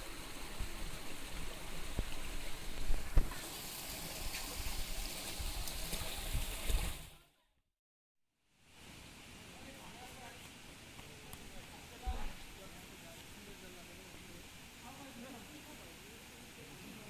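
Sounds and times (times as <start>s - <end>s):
stream water running: 0.0s - 7.2s, 8.6s - 17.0s.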